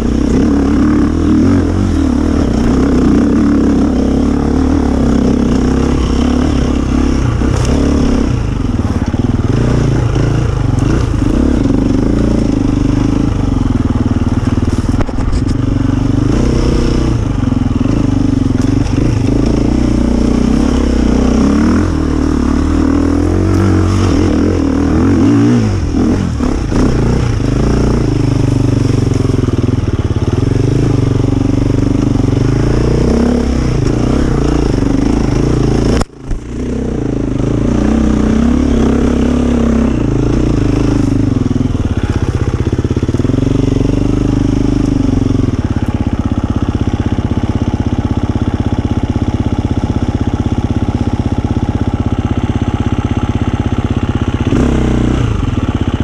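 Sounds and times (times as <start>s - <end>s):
dirt bike engine revving: 0.0s - 51.8s, 52.4s - 56.0s.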